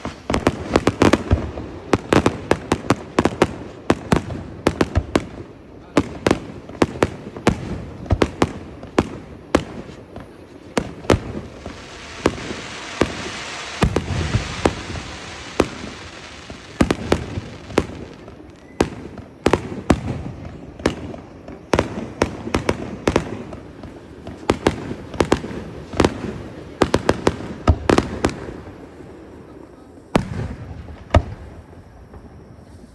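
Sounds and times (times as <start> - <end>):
fireworks bangs and cracks: 0.0 - 32.9
fireworks hiss: 0.0 - 32.9.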